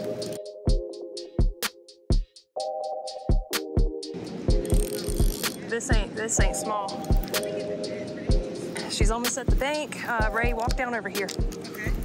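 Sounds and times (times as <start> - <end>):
kick drum and hi-hat beat: 0.0 - 12.0
synth chords: 0.0 - 12.0.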